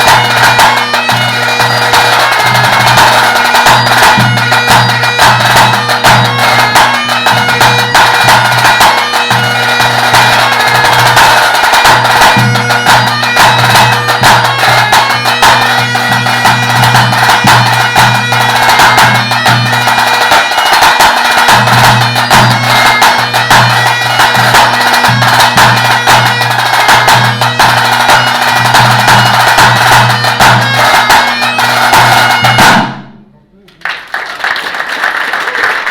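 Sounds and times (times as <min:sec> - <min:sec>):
bagpipe playing over drones: 0:00.0 - 0:32.7.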